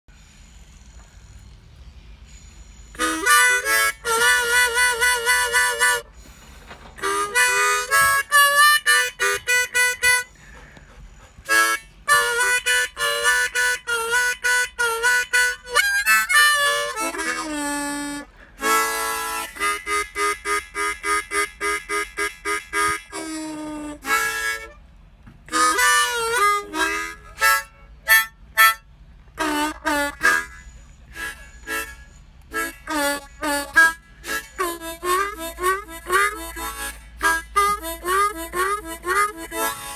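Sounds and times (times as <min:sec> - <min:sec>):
harmonica playing: 0:02.3 - 0:06.4, 0:07.0 - 0:39.9.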